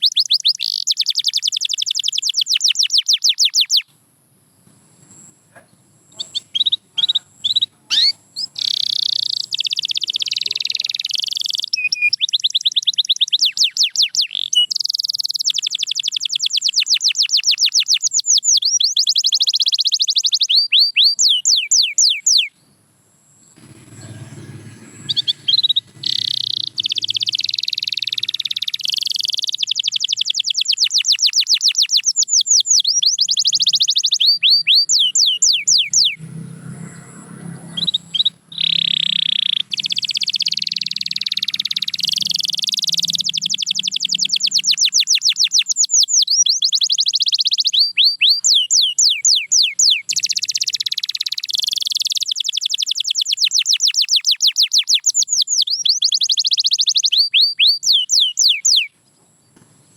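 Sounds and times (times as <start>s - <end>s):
canary singing trills: 0.0s - 3.9s, 5.0s - 59.3s.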